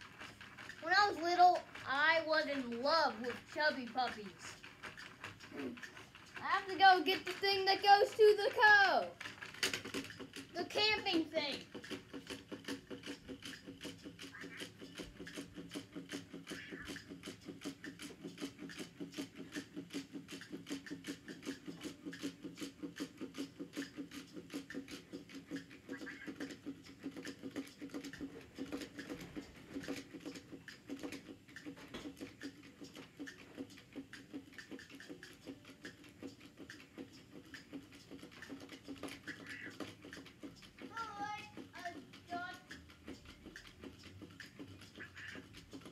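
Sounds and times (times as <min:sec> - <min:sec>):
faint toy motor hum: 0:00.0 - 0:45.9
toy feet pattering: 0:00.0 - 0:45.9.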